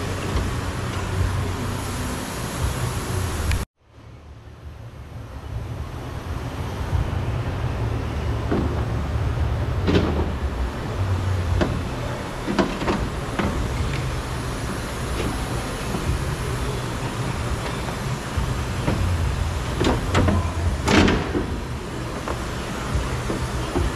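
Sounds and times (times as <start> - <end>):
low shop hum: 0.0 - 23.9.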